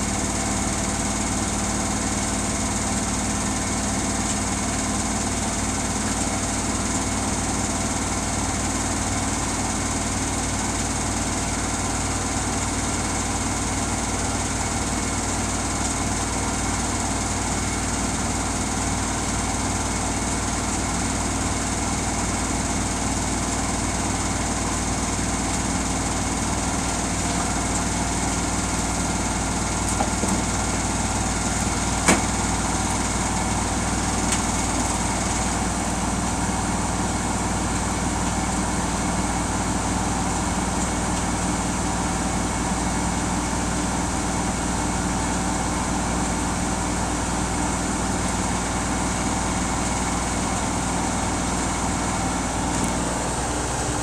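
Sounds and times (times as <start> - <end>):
washing machine spinning: 0.1 - 54.0.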